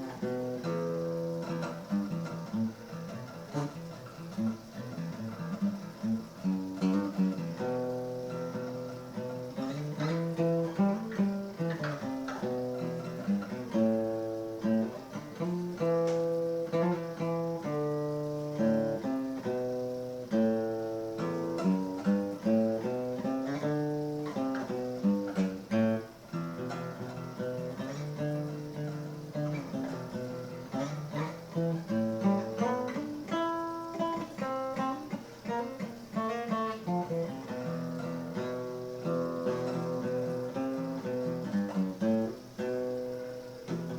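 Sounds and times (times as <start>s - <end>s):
acoustic guitar music: 0.0s - 43.9s.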